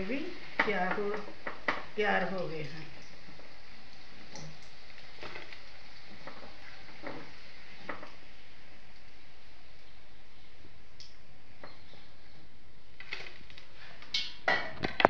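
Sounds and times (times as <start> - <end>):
food sizzling in hot oil: 0.0 - 14.5.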